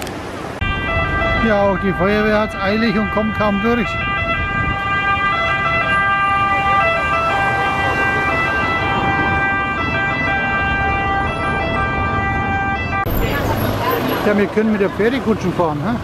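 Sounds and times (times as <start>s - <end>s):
street traffic: 0.0s - 16.0s
fire engine siren: 0.6s - 14.2s.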